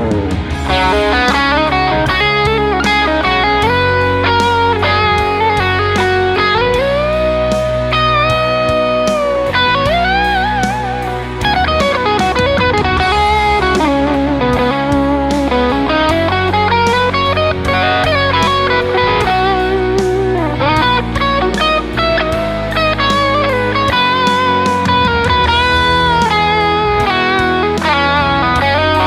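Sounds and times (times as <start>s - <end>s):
backing track with drums: 0.0s - 29.0s
electric guitar lead lines: 0.0s - 29.0s.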